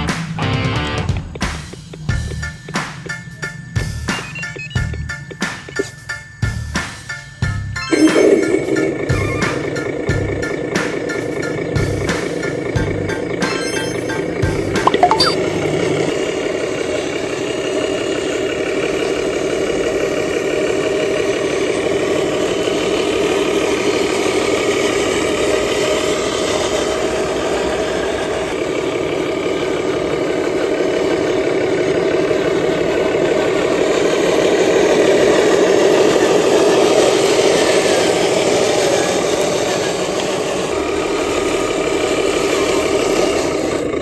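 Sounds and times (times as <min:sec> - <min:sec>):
truck engine chugging: 0:00.0 - 0:44.0.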